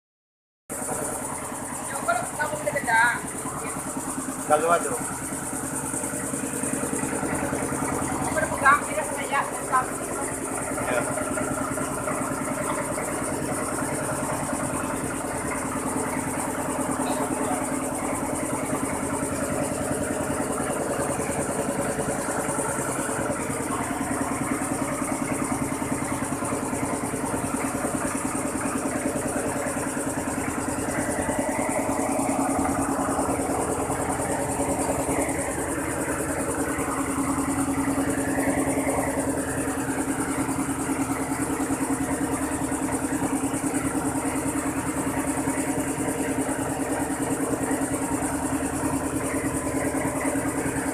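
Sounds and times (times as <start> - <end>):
rice milling machine drone: 0.7 - 50.9.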